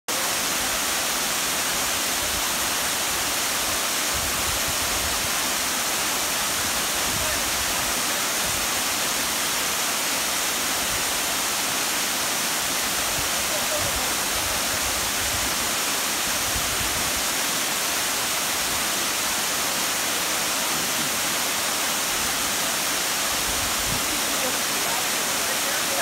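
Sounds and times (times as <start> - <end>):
waterfall pouring over rocks: 0.1 - 26.0.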